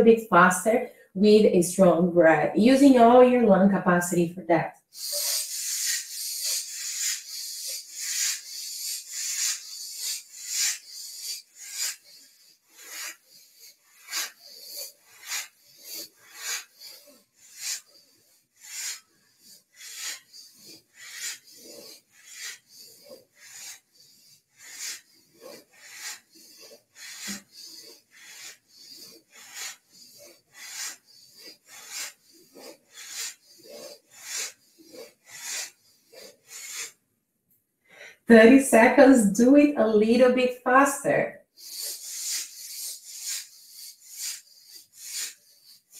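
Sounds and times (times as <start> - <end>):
rhythmic breathing through nose: 0.8 - 1.2, 4.7 - 37.0, 37.8 - 38.3, 41.3 - 45.9.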